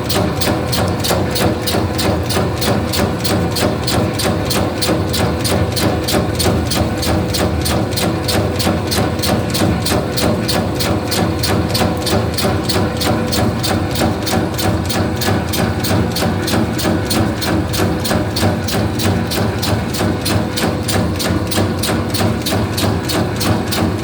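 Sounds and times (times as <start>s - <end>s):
machine motor hum with knocking: 0.0s - 24.0s.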